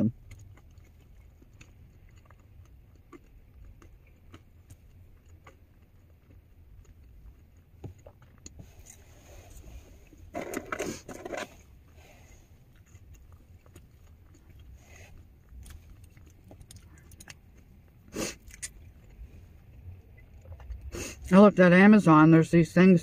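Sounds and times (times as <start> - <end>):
low rumble inside a car: 0.0 - 23.0.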